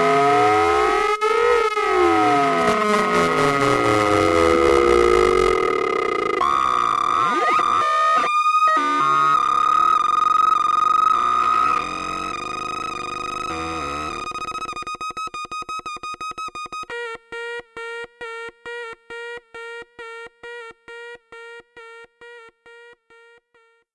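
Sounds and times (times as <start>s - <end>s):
buzzy synthesizer tone and pulses: 0.0s - 21.6s.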